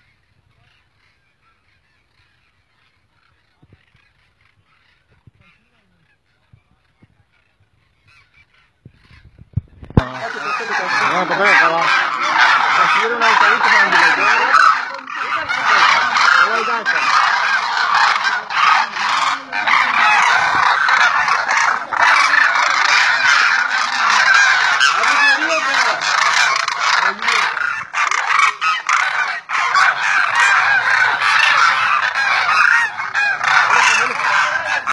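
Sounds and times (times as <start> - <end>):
flock of cranes calling: 0.0 - 34.9.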